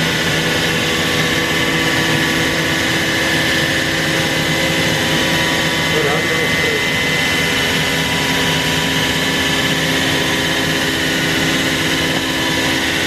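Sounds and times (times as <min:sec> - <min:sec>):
router machine whining: 0:00.0 - 0:13.0.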